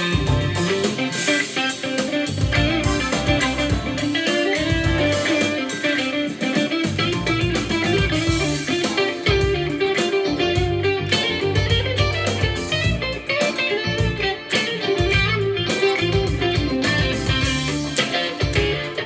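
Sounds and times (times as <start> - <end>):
electric guitar picked notes: 0.0 - 19.0.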